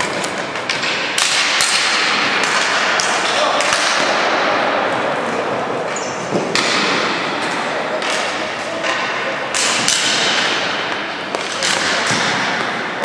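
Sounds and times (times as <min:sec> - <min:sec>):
sticks striking ball: 0:00.0 - 0:04.4, 0:06.4 - 0:13.0.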